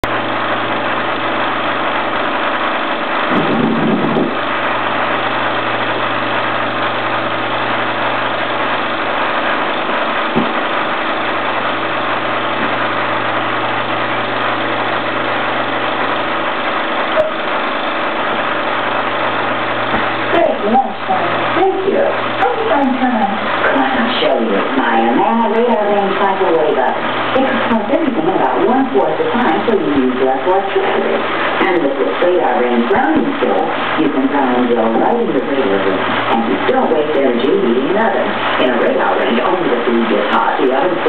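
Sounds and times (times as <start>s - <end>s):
film projector humming: 0.0s - 41.0s.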